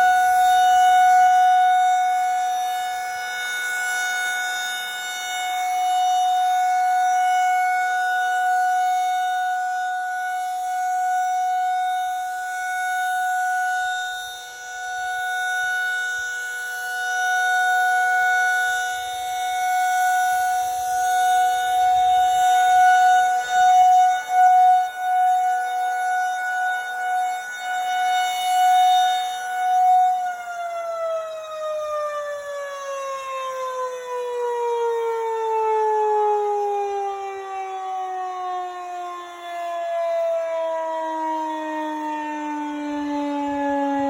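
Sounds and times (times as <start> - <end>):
rotating warning siren: 0.0 - 44.0.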